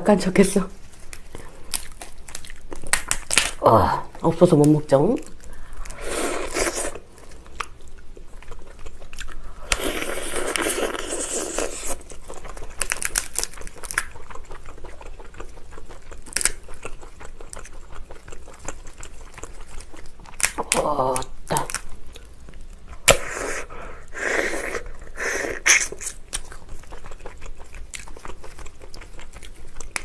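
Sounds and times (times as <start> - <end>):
chewing and crunching: 0.8 - 23.2, 24.6 - 30.0.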